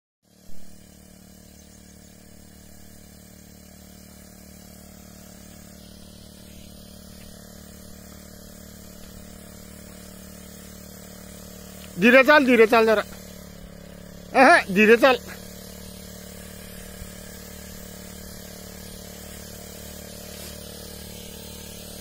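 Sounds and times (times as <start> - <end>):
power sprayer engine droning: 0.2 - 22.0
hiss of spray: 0.3 - 22.0.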